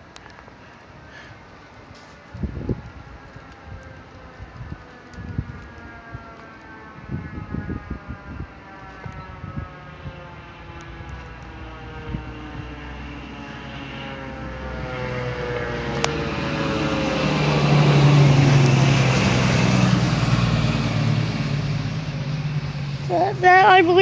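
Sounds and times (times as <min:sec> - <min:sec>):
vehicle engine passing: 0:02.2 - 0:24.0.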